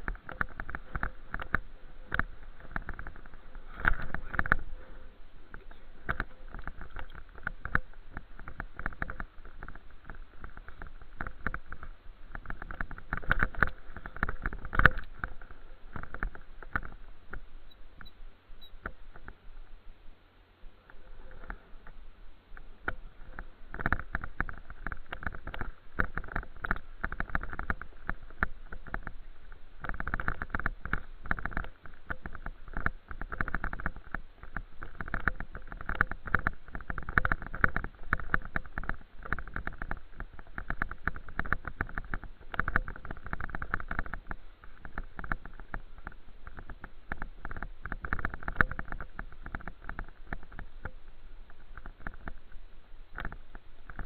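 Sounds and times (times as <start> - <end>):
bicycle rattling: 0.0 - 54.0.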